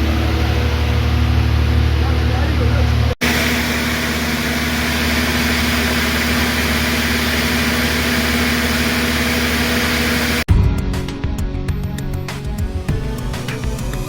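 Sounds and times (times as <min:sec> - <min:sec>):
diesel generator running: 0:00.0 - 0:14.0.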